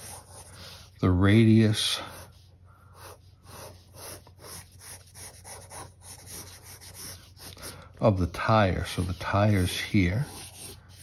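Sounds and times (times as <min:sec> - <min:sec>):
pencil scratching on paper: 0:00.0 - 0:11.0.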